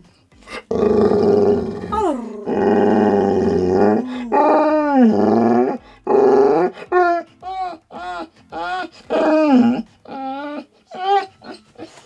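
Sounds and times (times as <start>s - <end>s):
dog grumbling: 0.5s - 12.0s.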